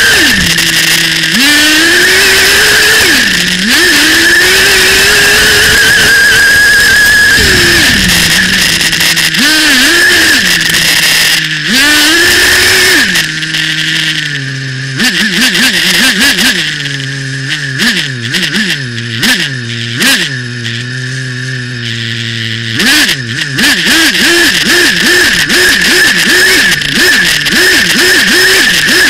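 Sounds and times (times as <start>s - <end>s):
model car engine revving: 0.0s - 29.0s.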